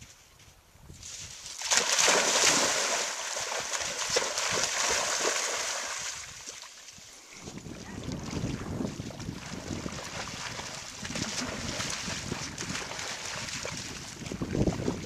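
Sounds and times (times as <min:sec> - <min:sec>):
dogs splashing through river water: 0:01.4 - 0:15.0.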